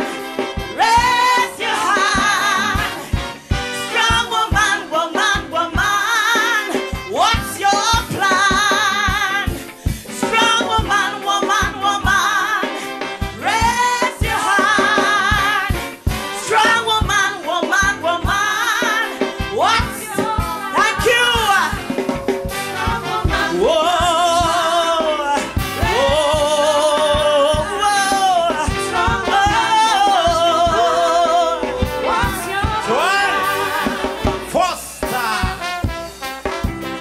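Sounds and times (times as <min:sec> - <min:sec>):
band playing calypso music: 0:00.0 - 0:37.0.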